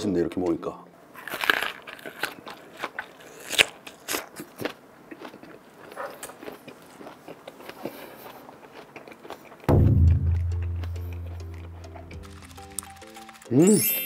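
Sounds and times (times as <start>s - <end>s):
crunchy chewing: 1.1s - 9.7s, 10.4s - 13.5s.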